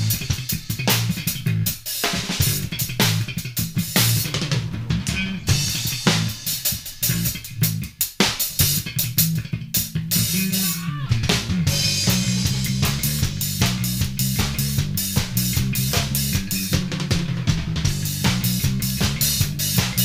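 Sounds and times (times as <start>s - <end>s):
bass guitar: 0.0s - 20.0s
drum kit funk groove: 0.0s - 20.0s.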